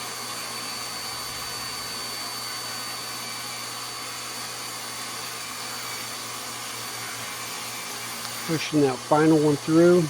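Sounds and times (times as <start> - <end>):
dust extractor rushing: 0.0 - 10.0
table saw running: 0.0 - 10.0.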